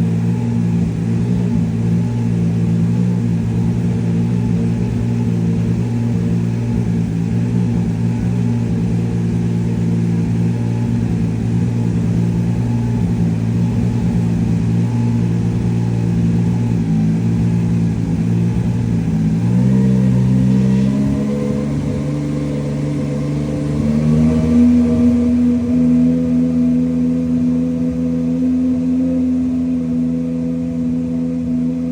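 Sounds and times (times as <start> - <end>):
race car engine idling: 0.0 - 31.9.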